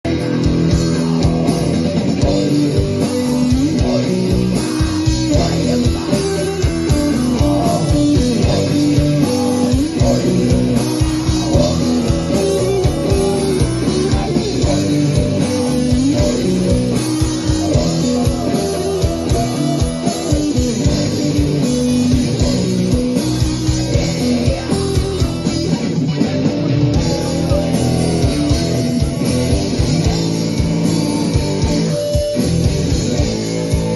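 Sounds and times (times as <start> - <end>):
bass guitar: 0.0 - 33.9
electric guitars: 0.0 - 33.9
steady drum beat: 0.0 - 33.9
person singing: 0.1 - 25.8, 26.4 - 32.2.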